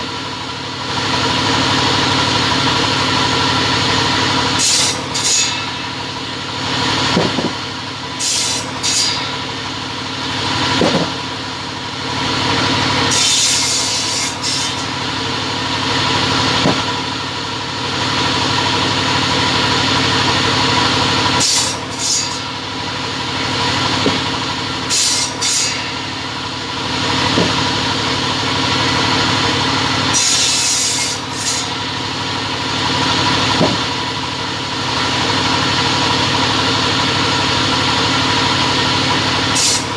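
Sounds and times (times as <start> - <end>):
saw cutting noise: 0.0 - 39.9
saw humming: 1.0 - 39.9.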